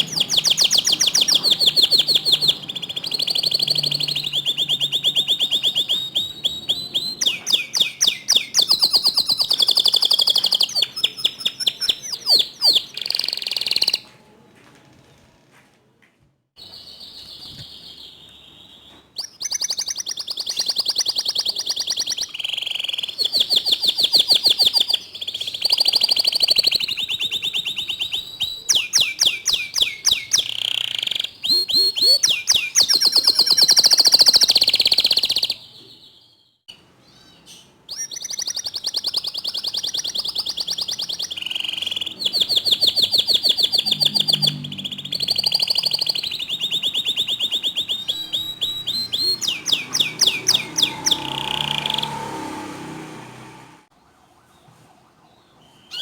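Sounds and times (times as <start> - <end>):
canary singing trills: 0.0 - 14.1, 16.6 - 53.2, 55.6 - 56.0.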